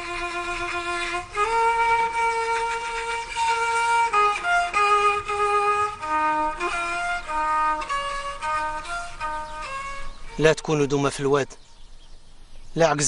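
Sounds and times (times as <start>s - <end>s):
slow solo violin melody: 0.0s - 10.9s.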